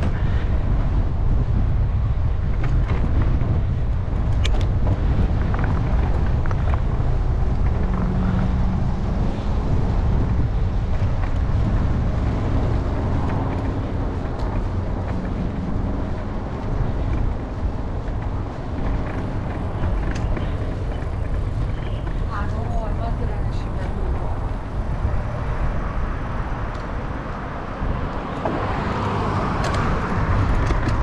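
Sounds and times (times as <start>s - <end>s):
motor-vehicle traffic: 0.0s - 31.0s
wind rumbling on microphone: 0.0s - 31.0s.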